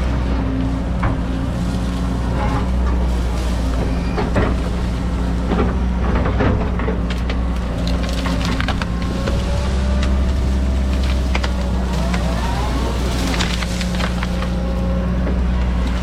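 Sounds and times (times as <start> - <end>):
excavator diesel engine running: 0.0 - 16.0
wood cracking and knocking: 0.2 - 16.0.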